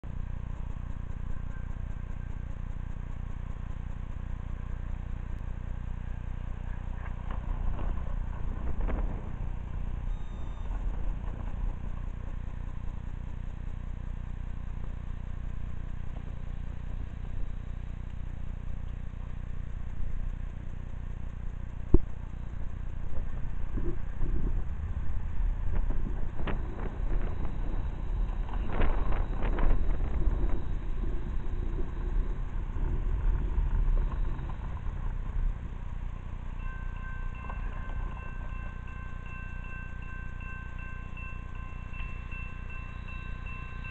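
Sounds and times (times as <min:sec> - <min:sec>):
low engine rumble: 0:00.0 - 0:43.9.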